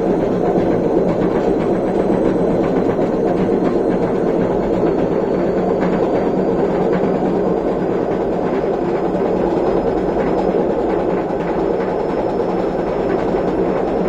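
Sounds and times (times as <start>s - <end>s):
washing machine drum rumbling: 0.0s - 14.0s.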